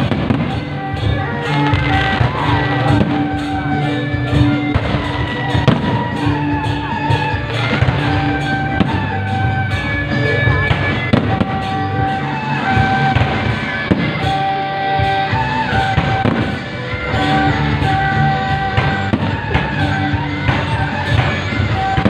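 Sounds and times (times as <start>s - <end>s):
fireworks bangs and crackling: 0.0s - 22.0s
loud music with held notes: 0.0s - 22.0s.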